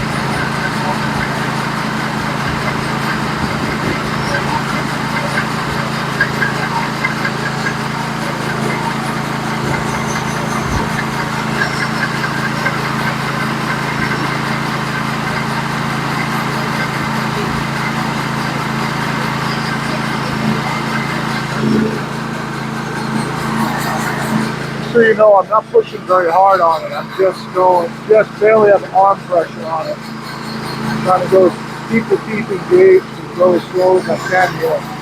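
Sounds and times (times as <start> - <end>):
saw blade cutting log: 0.0 - 35.0
small engine running: 0.0 - 35.0.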